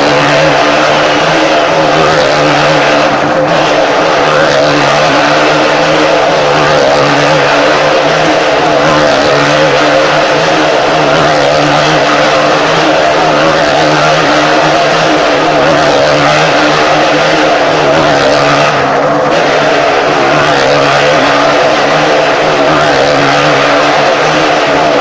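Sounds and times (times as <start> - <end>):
motorcycle engine at high revs: 0.0 - 25.0.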